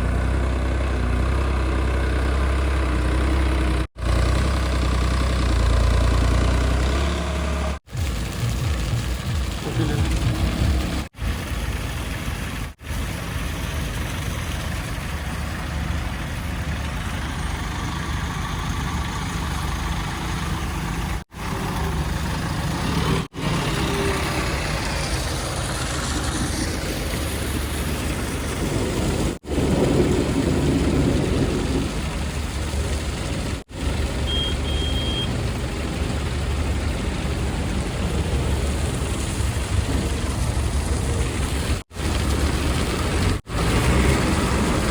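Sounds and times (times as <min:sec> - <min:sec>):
heavy diesel engines rumbling: 0:00.0 - 0:44.9.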